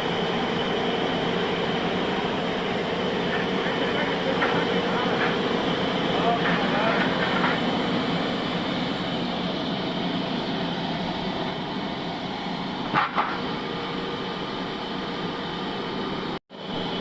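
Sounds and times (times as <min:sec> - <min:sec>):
bandsaw sawmill running: 0:00.0 - 0:17.0.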